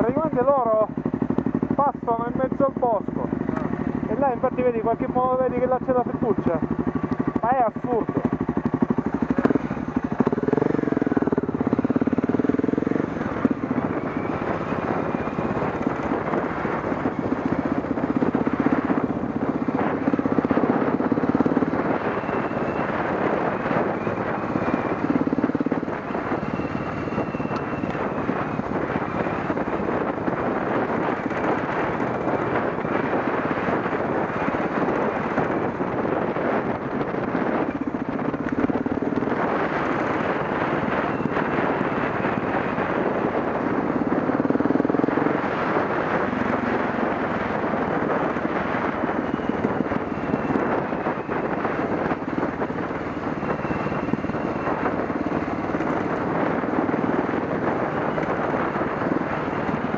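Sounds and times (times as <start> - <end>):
motorcycle engine: 0.0 - 59.9
steady rushing noise: 0.0 - 59.9.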